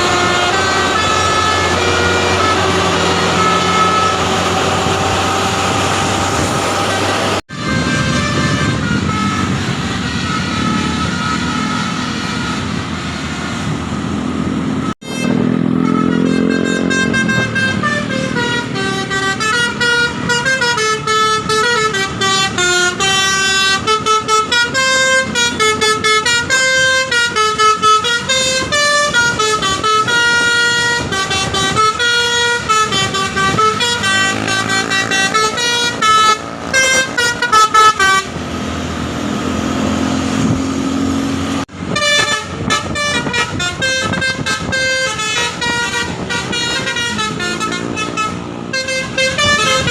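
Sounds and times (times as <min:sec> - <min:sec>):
musical air horn melody: 0:00.0 - 0:13.0, 0:15.0 - 0:38.4, 0:41.9 - 0:49.9
bus engine running: 0:00.0 - 0:49.9.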